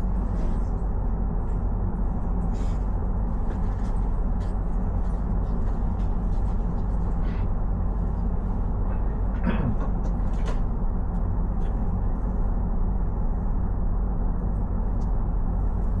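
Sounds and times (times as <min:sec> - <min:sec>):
vehicle rumble: 0:00.0 - 0:16.0.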